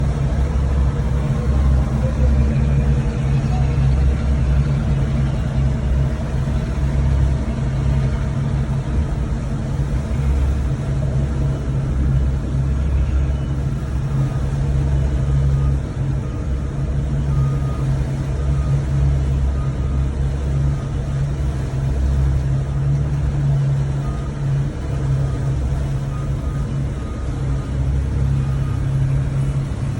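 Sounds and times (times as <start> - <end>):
boat engine rumbling: 0.0 - 29.9.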